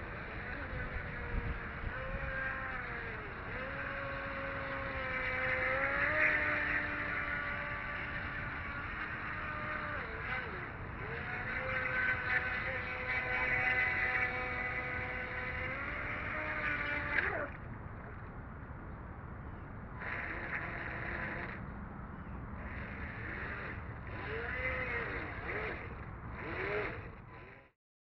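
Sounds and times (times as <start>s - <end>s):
toy boat electric motor whining: 0.0s - 18.2s, 19.9s - 21.7s, 22.3s - 27.8s.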